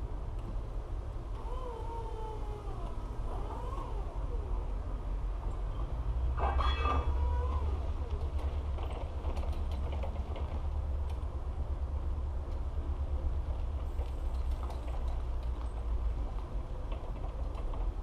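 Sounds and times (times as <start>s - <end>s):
steady low rumble: 2.2s - 18.0s.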